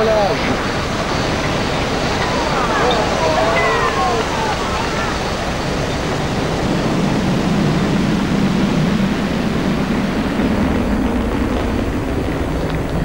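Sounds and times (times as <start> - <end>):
rocket engines roaring: 0.0 - 13.0.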